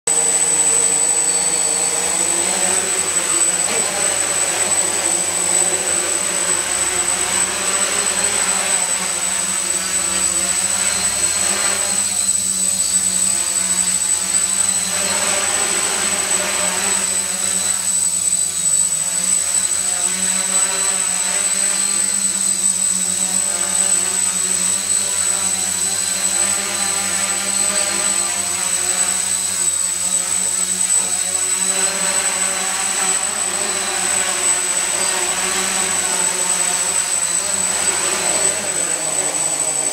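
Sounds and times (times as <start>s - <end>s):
drone propellers buzzing: 0.0s - 39.9s
high-pitched whine: 0.1s - 39.9s.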